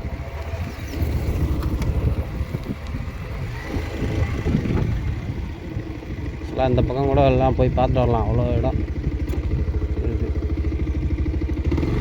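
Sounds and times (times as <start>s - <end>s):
motorcycle engine running low: 0.0s - 12.0s
wind buffeting microphone: 0.0s - 12.0s.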